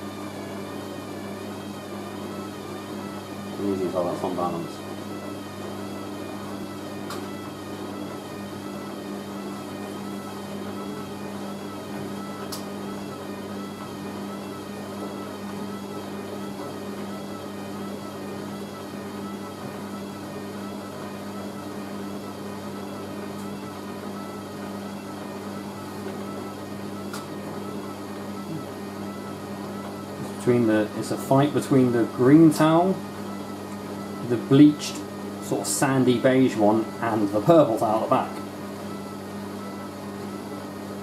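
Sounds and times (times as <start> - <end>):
steady hum: 0.0 - 41.0
washing machine motor whine: 0.0 - 41.0.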